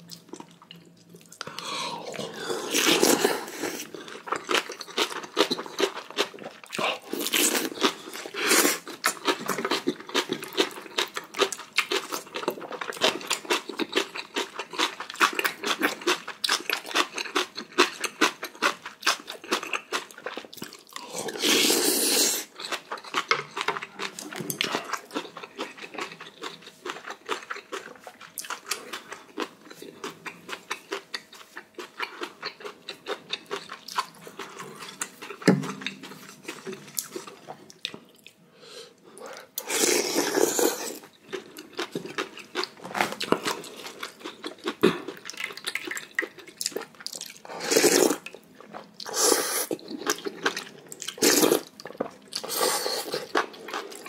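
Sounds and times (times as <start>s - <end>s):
person chewing noodles: 0.0s - 54.0s.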